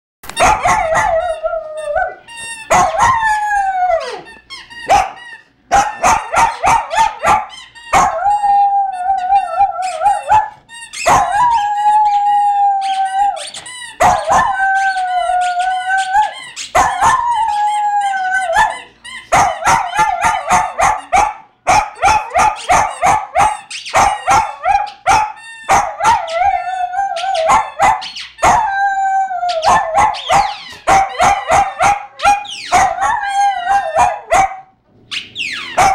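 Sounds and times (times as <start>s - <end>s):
squeaky toy squeaking: 0.3s - 3.4s, 4.0s - 8.6s, 9.2s - 21.3s, 21.9s - 28.9s, 29.5s - 34.3s, 35.1s - 35.9s
dog howling: 0.6s - 4.3s, 5.9s - 10.5s, 11.1s - 21.2s, 22.0s - 34.6s.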